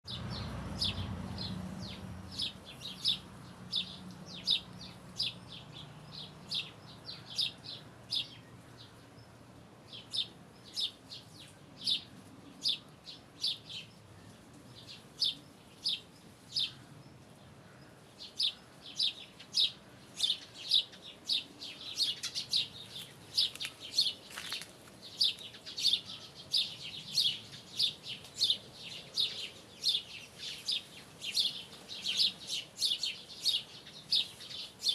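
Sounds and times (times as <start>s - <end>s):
small songbirds chirping: 0.0s - 34.9s.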